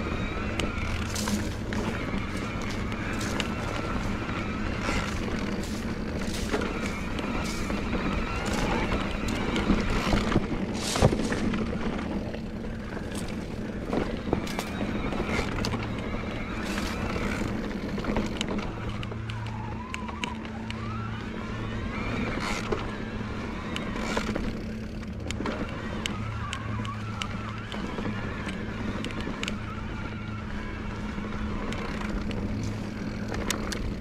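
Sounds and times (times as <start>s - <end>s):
electric bike motor whirring: 0.0s - 34.0s
tyres on dirt: 0.0s - 34.0s.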